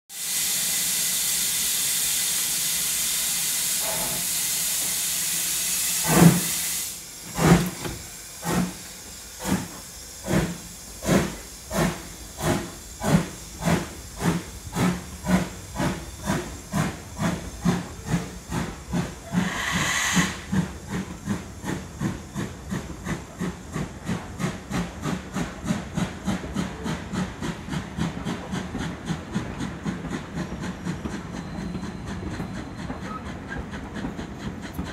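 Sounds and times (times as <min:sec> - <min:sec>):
steam hissing: 0:00.1 - 0:34.9
steam locomotive exhaust beats: 0:00.1 - 0:34.9.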